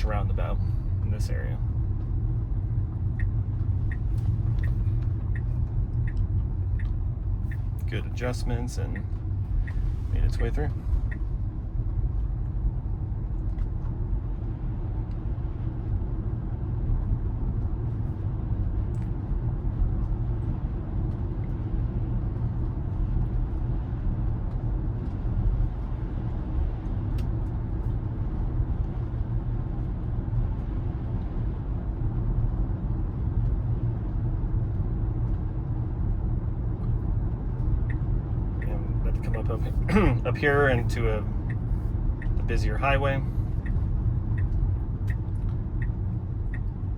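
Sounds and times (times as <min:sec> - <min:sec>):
tyre and road rumble: 0:00.0 - 0:46.9.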